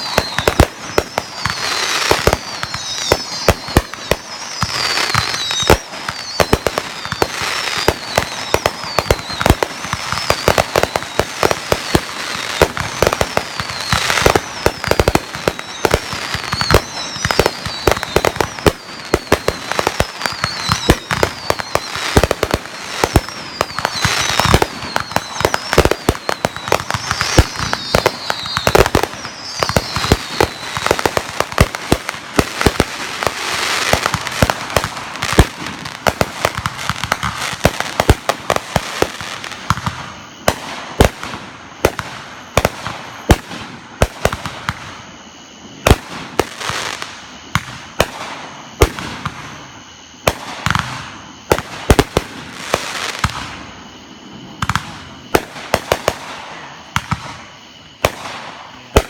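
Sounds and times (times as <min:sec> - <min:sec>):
falling firework whistles: 0:00.0 - 0:59.0
fireworks bangs and crackles: 0:00.0 - 0:59.0.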